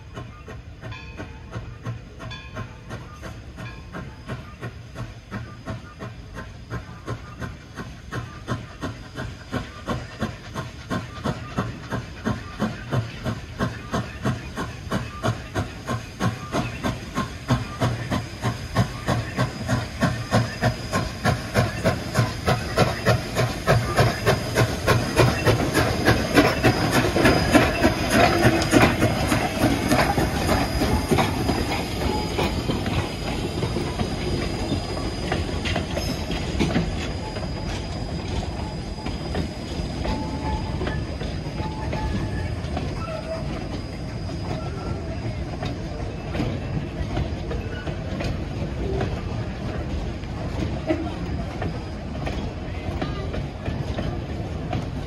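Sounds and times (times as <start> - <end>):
steam locomotive exhaust chuff: 0.0 - 55.0
wheels clicking over rail joints: 0.1 - 55.0.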